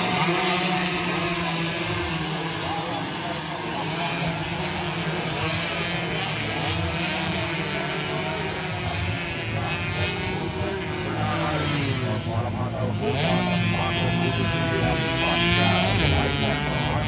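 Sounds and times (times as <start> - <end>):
racing motorcycles revving: 0.0 - 17.0.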